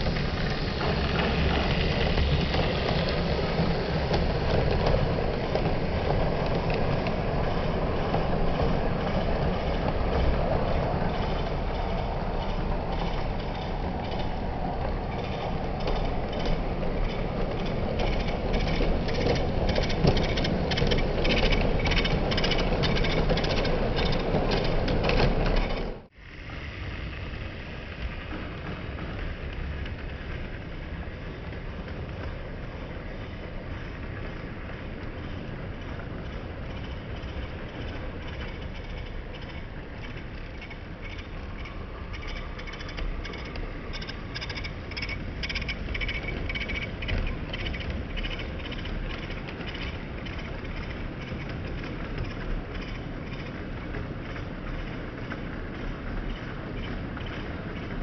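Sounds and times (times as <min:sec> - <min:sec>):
model train rumbling: 0:00.0 - 0:58.0
wheels clicking over rail joints: 0:00.0 - 0:58.0.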